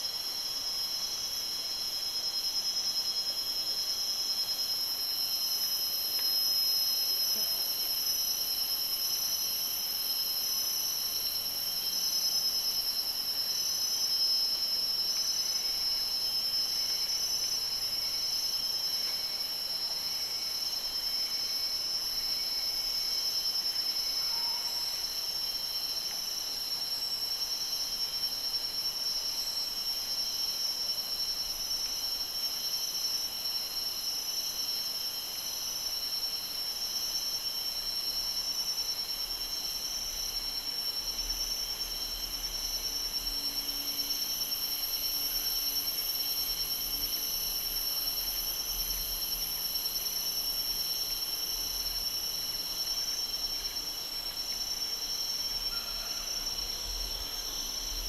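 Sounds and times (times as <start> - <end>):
insects buzzing: 0.0 - 58.0
pulsing insect call: 0.0 - 58.0.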